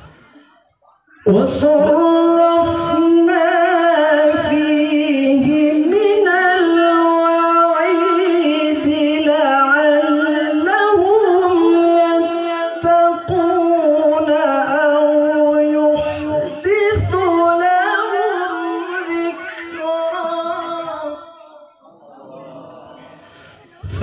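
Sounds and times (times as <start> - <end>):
man reciting melodically over pa: 0.0 - 24.0.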